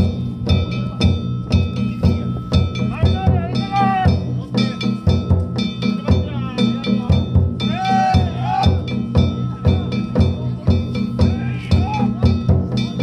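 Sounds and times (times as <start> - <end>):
large drum beaten fast: 0.0 - 13.0.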